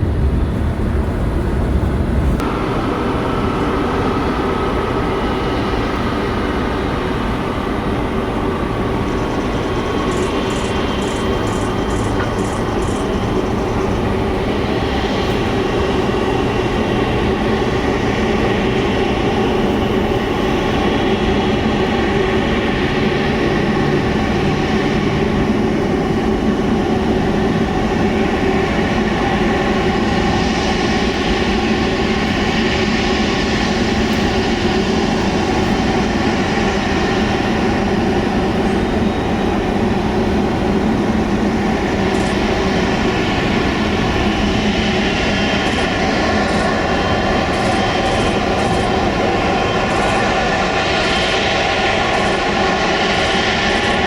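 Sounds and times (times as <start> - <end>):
jet engines droning: 0.0 - 54.0.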